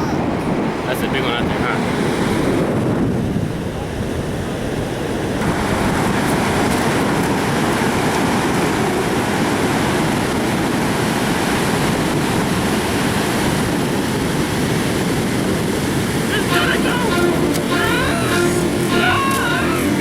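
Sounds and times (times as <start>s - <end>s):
ocean surf rushing on beach: 0.0s - 20.0s
wind buffeting microphone: 0.0s - 20.0s.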